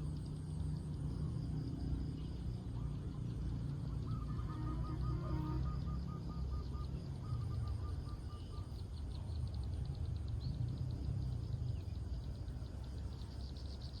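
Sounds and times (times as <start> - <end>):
steady low rumble: 0.0 - 4.2, 6.8 - 14.0.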